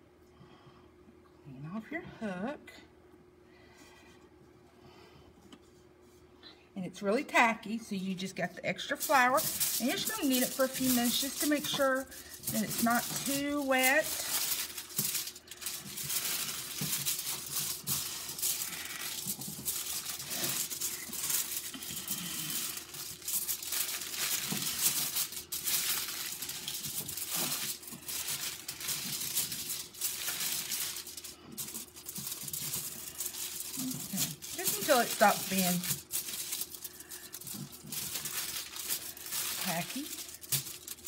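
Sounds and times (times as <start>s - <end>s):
faint steady hum: 0.0s - 41.0s
aluminum foil crinkling: 8.1s - 41.0s.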